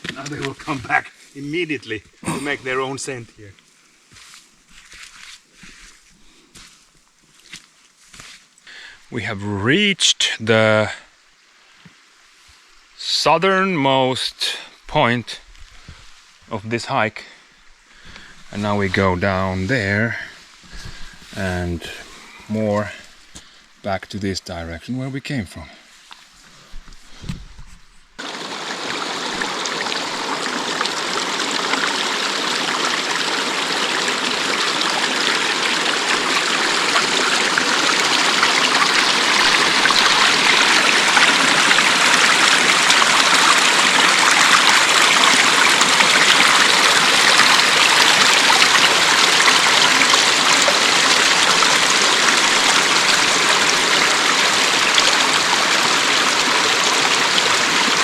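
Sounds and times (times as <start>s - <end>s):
creek water rushing: 0.0s - 7.5s, 8.4s - 23.8s, 28.2s - 58.0s.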